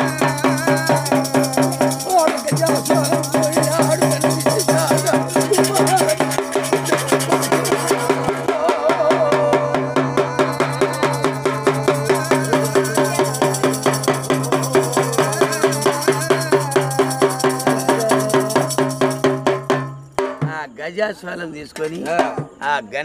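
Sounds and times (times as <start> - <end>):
barrel drum beating: 0.0 - 20.6, 21.8 - 22.6.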